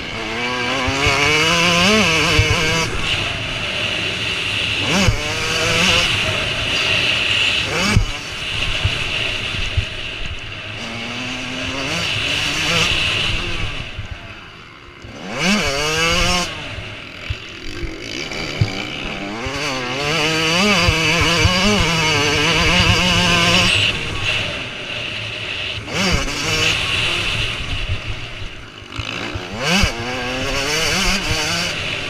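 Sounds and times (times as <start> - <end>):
motorcycle engines revving: 0.0 - 32.0.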